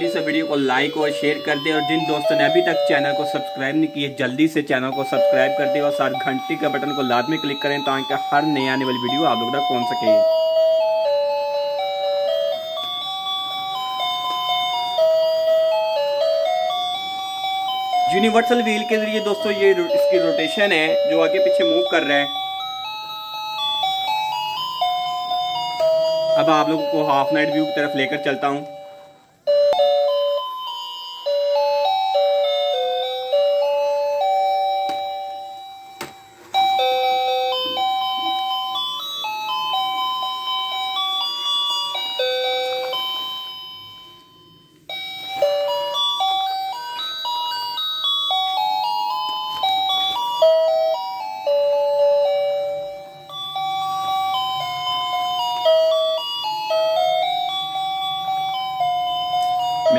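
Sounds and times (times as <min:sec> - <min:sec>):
toy playing electronic chime tune: 0:00.0 - 0:59.9.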